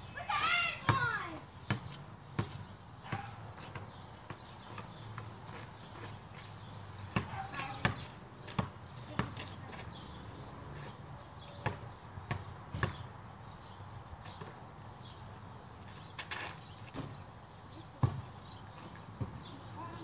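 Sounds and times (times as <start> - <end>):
basketball bouncing on pavement: 0.2 - 14.8, 15.6 - 20.0.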